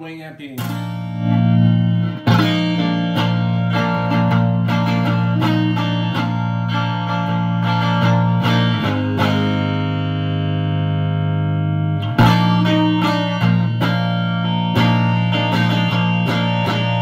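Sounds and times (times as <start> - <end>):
clean electric guitar chords: 0.6 - 17.0.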